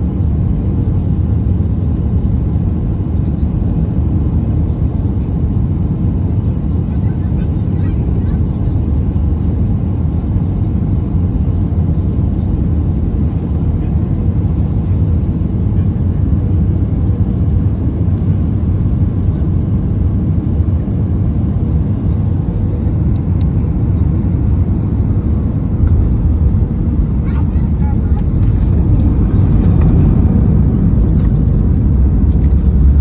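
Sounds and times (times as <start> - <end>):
jet engine rumble in cabin: 0.0 - 33.0.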